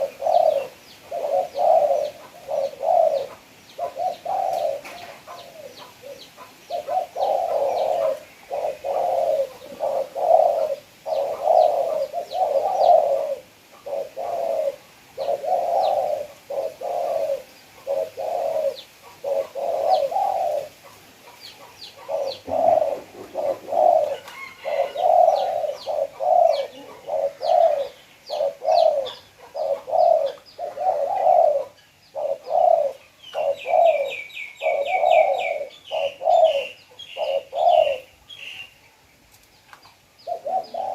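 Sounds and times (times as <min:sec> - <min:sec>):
dove cooing: 0:00.0 - 0:38.7, 0:40.2 - 0:40.9
small birds chirping: 0:00.0 - 0:40.9.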